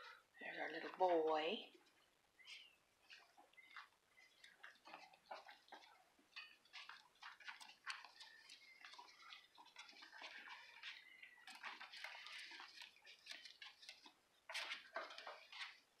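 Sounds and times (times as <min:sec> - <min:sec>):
puppies scuffling: 0:00.0 - 0:16.0.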